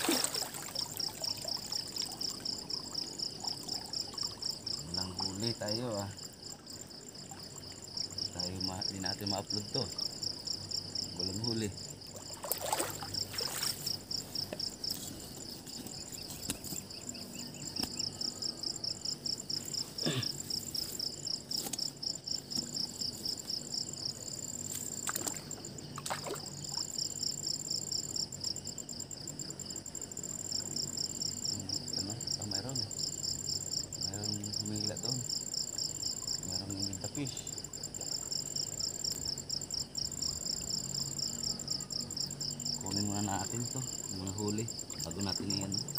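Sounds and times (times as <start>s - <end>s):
high continuous insect trill: 0.0s - 45.9s
insects chirping: 0.0s - 45.9s.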